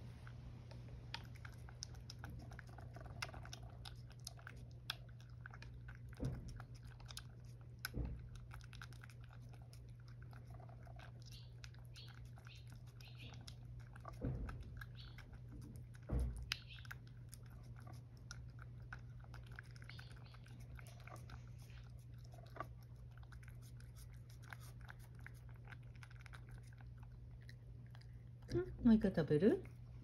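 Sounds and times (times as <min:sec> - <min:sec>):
cat licking and chewing food: 0:00.0 - 0:30.0.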